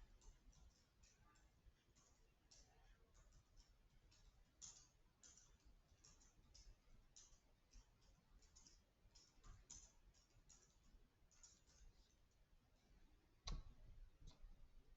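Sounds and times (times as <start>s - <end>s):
faint clicking: 0.0s - 12.4s.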